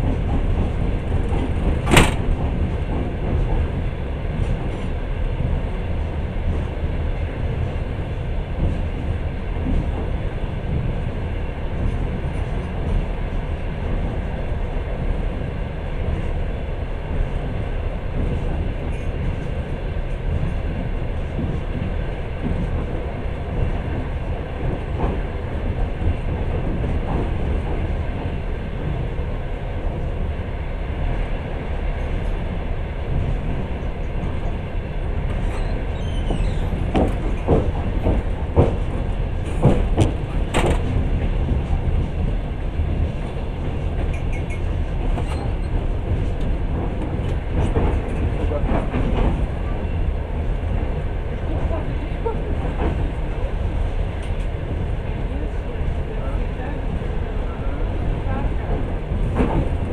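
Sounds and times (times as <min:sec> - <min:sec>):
train wheels rumbling: 0:00.0 - 0:59.9.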